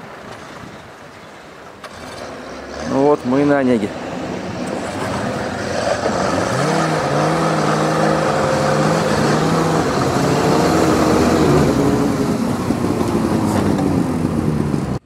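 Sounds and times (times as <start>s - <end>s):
diesel engine driving up: 1.8s - 15.0s.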